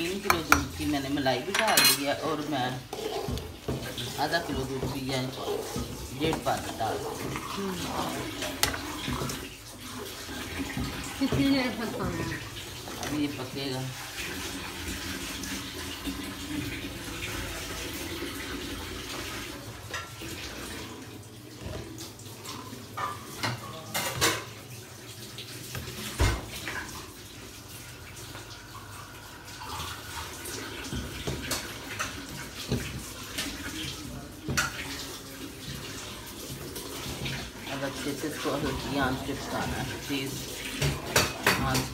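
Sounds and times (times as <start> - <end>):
liquid sloshing in a pan: 0.0 - 41.9.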